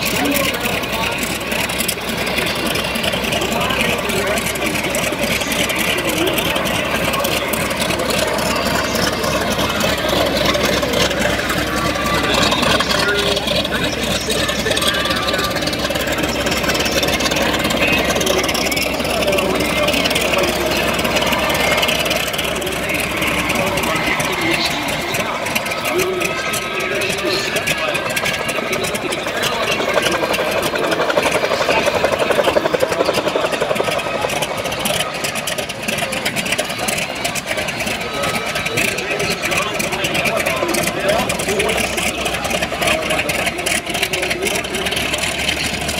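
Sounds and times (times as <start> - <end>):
helicopter engine and rotor: 0.0 - 45.9
people talking: 0.0 - 45.9.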